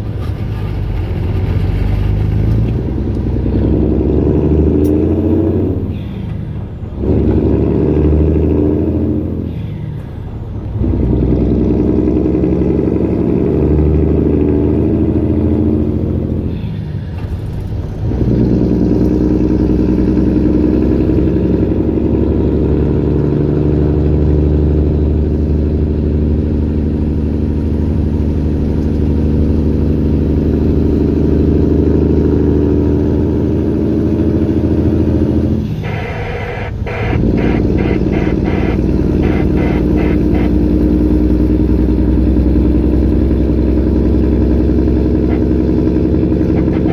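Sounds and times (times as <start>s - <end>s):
truck diesel engine from cab: 0.0s - 46.9s.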